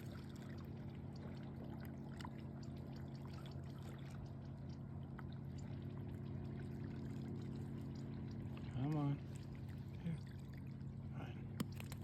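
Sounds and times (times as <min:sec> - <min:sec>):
steady low hum: 0:00.0 - 0:12.0
water drips and splashes: 0:00.0 - 0:12.0
water lapping and trickling: 0:00.0 - 0:12.0.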